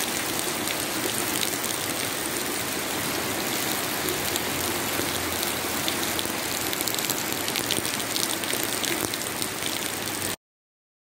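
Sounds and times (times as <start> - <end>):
heavy rain on wet pavement: 0.0 - 10.4
runoff water pouring: 0.0 - 10.4.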